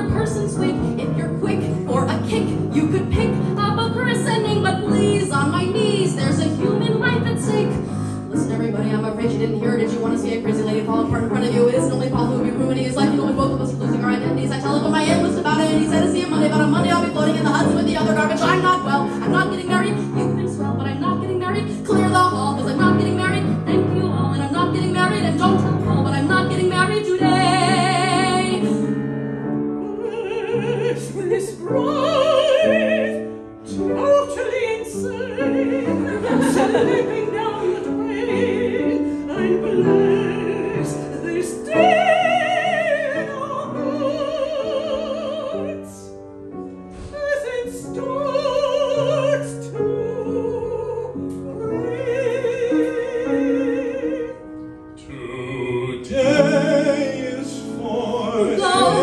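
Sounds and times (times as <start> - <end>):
women singing: 0.0 - 28.9, 29.9 - 46.1, 47.0 - 54.4, 55.1 - 59.0
piano accompaniment: 0.0 - 59.0.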